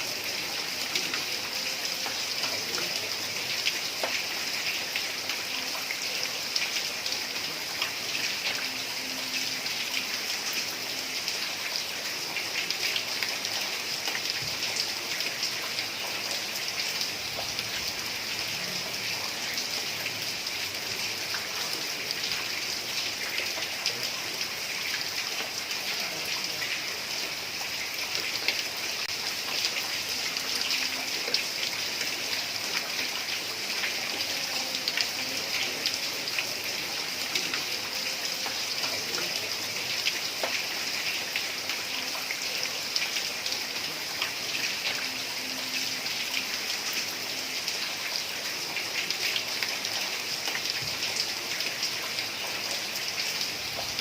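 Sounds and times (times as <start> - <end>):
heavy rain on a tiled roof: 0.0 - 54.0.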